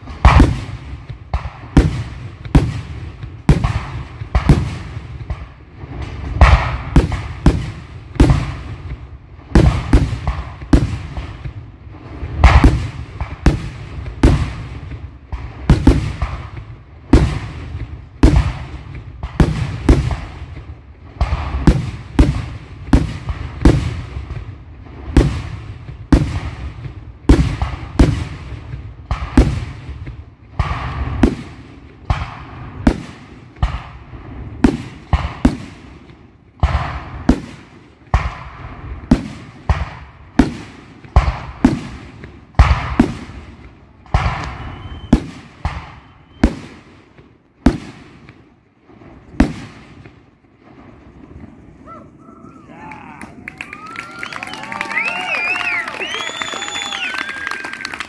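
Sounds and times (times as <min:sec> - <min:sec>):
fireworks bursting with echo: 0:00.0 - 0:58.0.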